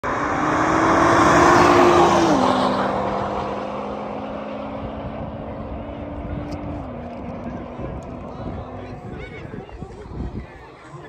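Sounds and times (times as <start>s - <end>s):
racing car engine at high revs: 0.0s - 9.4s.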